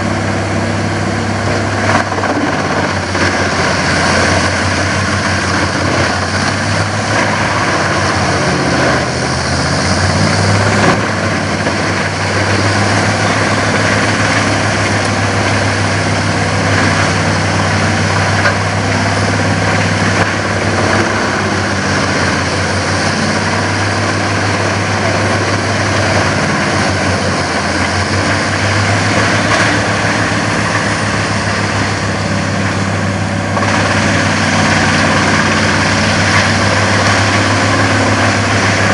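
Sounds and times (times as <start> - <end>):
woodchipper humming: 0.0 - 38.9.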